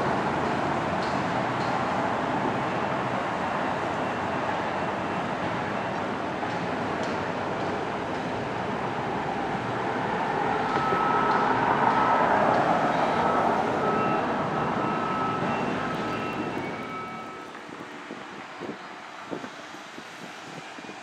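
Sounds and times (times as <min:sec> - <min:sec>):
distant engine noise: 0:00.1 - 0:21.0.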